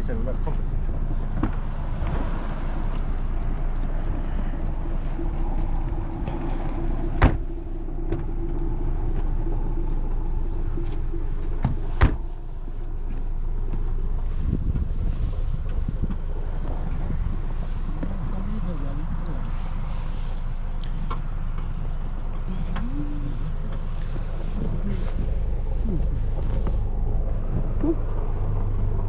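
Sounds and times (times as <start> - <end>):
engine low rumble: 0.0 - 29.0.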